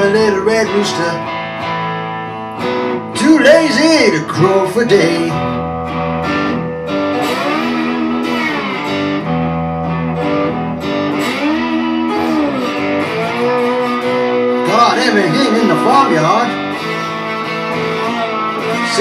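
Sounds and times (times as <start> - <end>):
slide electric guitar blues: 0.0 - 19.0.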